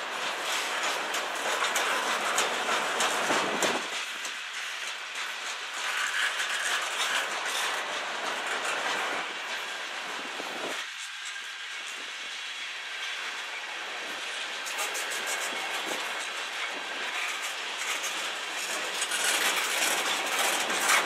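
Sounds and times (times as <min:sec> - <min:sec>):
freight train rolling clatter: 0:00.0 - 0:21.0
steel wheels clicking over rail joints: 0:00.0 - 0:21.0.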